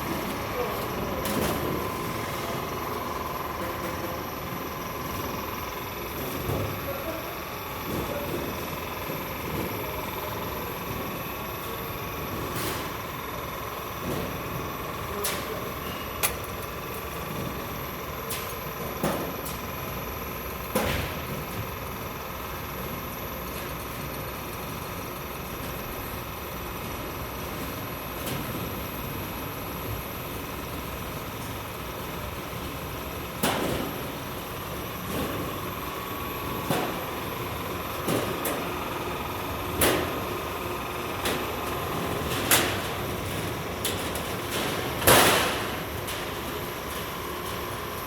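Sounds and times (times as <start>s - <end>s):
roll forming machine humming: 0.0s - 48.0s.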